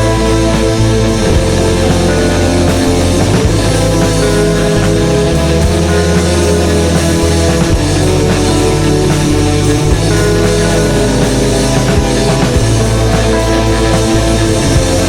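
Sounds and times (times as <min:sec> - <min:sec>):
rock music with electric guitars: 0:00.0 - 0:15.0.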